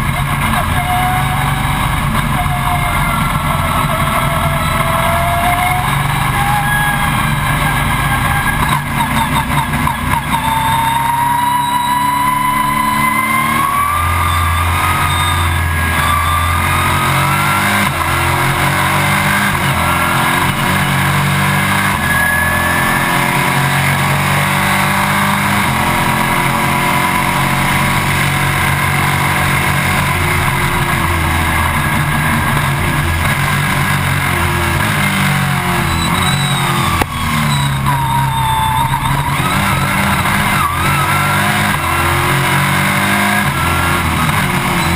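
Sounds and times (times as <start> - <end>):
high drivetrain whine: 0.0 - 44.9
race car engine revving: 0.0 - 44.9.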